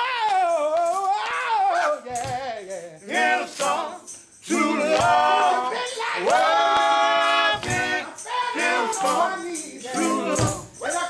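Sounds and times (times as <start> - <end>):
gospel group singing: 0.0 - 11.0
percussion hits: 0.0 - 11.0.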